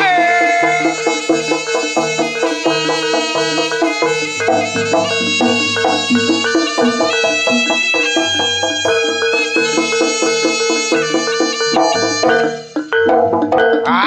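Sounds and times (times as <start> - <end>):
reedy wind melody: 0.0 - 12.8
drums and gong-chime percussion: 0.0 - 14.0.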